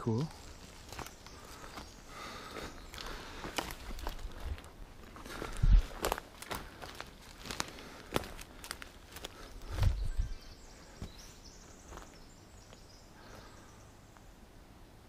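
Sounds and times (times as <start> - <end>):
footsteps crunching on twigs: 0.0 - 13.5.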